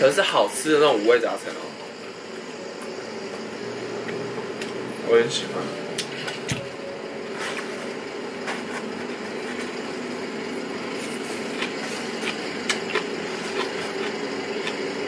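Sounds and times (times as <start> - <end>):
air conditioner hum: 0.0 - 15.0.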